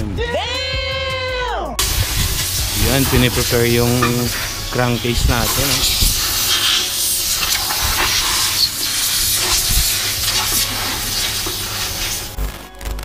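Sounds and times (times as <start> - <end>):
compressed air blow gun hissing: 1.8 - 12.4.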